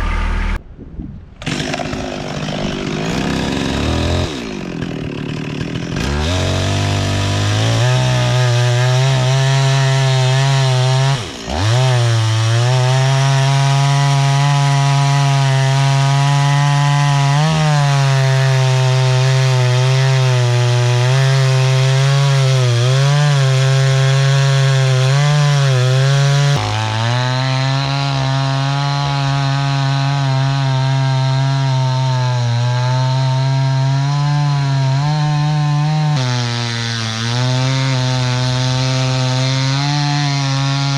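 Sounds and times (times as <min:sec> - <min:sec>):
chainsaw cutting through log: 0:01.4 - 0:40.9.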